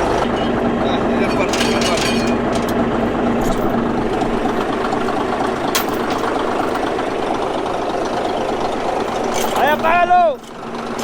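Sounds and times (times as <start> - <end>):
heavy diesel engine idling: 0.0 - 11.0.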